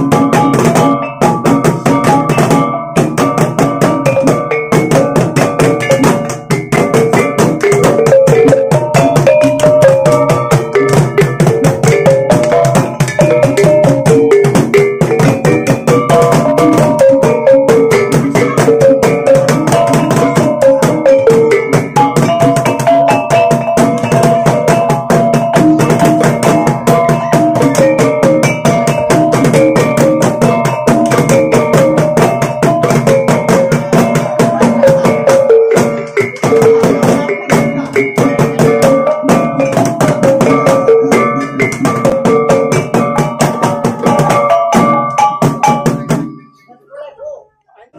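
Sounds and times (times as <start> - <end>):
drums struck with sticks: 0.0 - 46.4
small gongs melody: 0.0 - 46.7.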